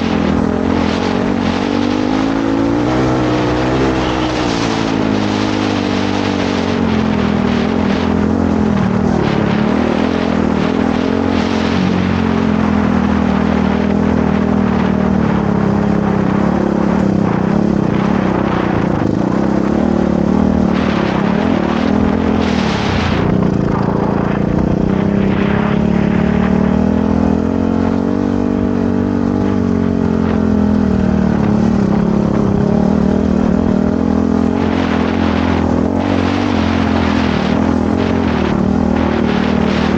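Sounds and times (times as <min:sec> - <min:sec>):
motorcycle engine running: 0:00.0 - 0:39.9
rushes of wind: 0:00.0 - 0:39.9.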